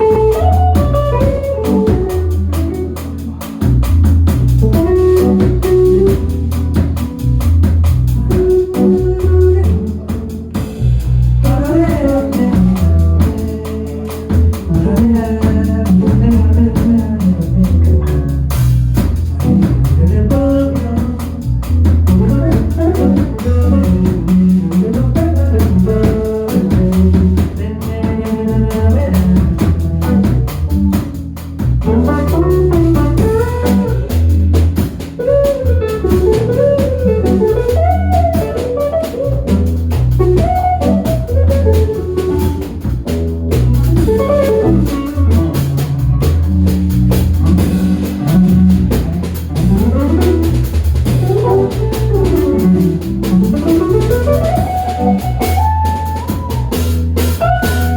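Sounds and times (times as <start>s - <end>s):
drum kit: 0.0s - 57.9s
guitar: 0.0s - 57.9s
low bass notes: 0.0s - 57.9s
sliding lead melody: 0.0s - 57.9s.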